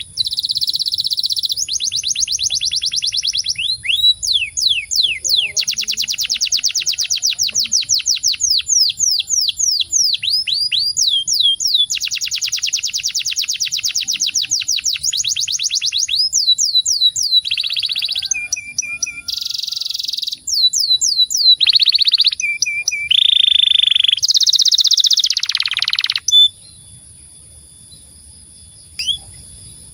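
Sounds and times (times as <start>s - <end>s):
canary singing trills: 0.0s - 29.9s.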